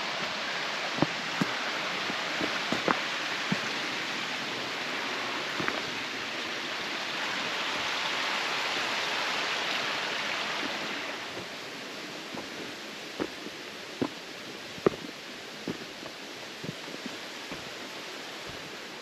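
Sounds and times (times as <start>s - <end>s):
running mountain water: 0.0s - 19.0s.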